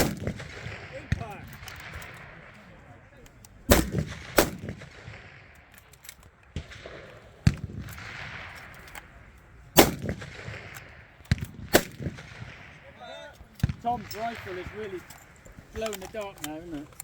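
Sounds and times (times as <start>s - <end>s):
rifle shots with echo: 0.0s - 16.8s.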